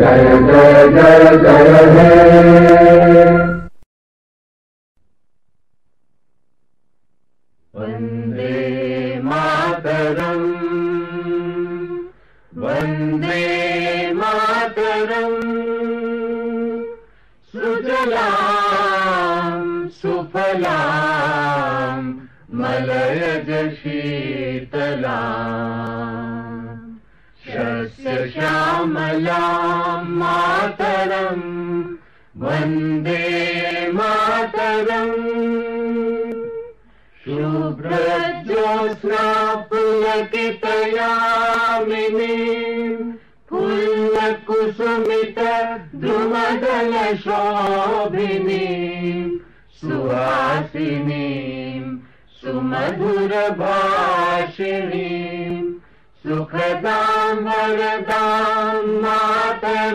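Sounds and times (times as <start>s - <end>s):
person singing chant-like phrases: 0.0s - 3.6s, 7.8s - 59.9s.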